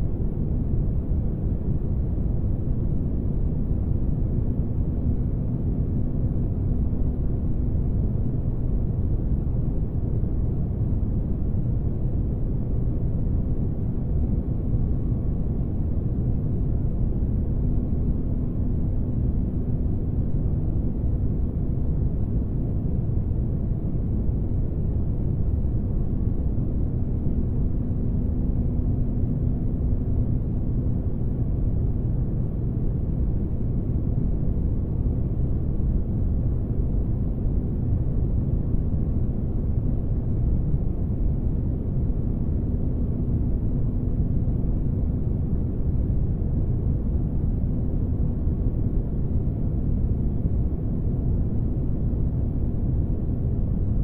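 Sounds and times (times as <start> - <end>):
faint constant hum: 0.0 - 54.0.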